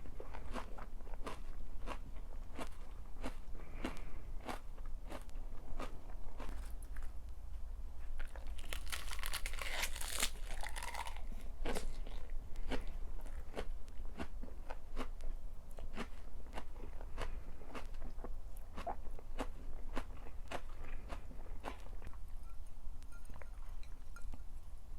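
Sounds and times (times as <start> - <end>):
person chewing crunchy food: 0.0 - 7.3, 8.0 - 22.4.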